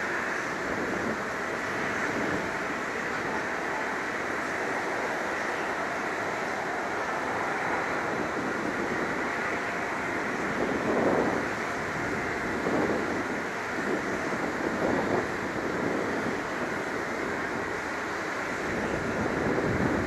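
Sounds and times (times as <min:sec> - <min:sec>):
jet engines running: 0:00.0 - 0:20.0
wind buffeting microphone: 0:00.0 - 0:20.0.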